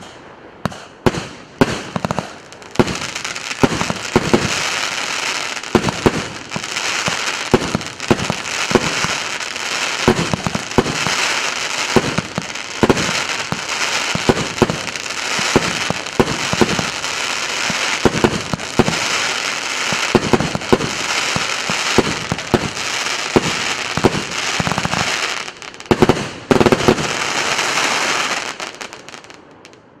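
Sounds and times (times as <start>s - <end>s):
firework crackle: 0.7s - 29.8s.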